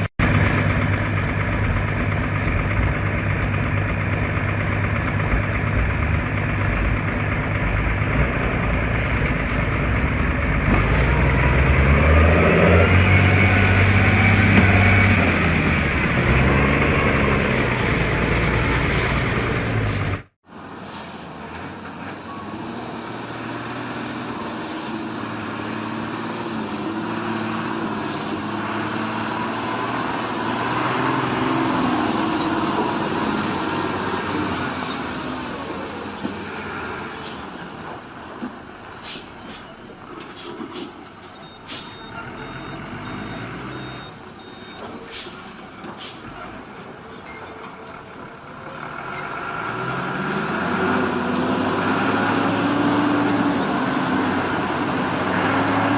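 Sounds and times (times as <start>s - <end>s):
truck engine revving under load: 0.0s - 55.9s.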